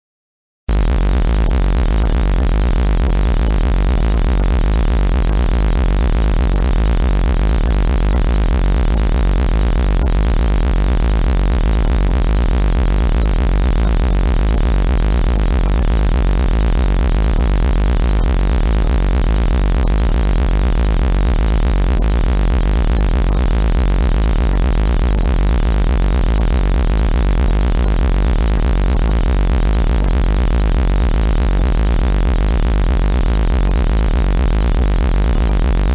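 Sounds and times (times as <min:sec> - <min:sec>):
low electronic buzz: 0:00.7 - 0:35.9.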